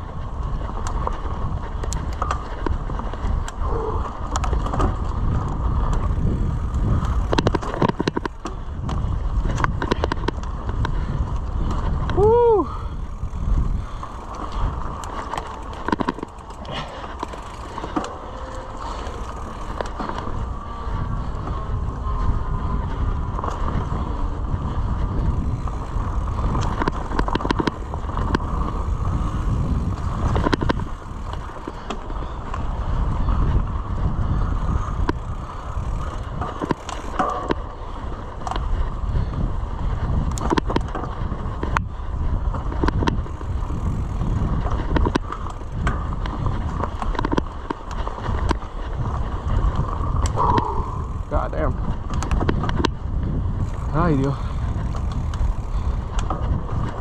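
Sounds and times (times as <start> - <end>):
bike clicks and rattles: 0.0 - 57.0
tyres rolling on dirt: 0.0 - 57.0
wind on microphone: 0.0 - 57.0.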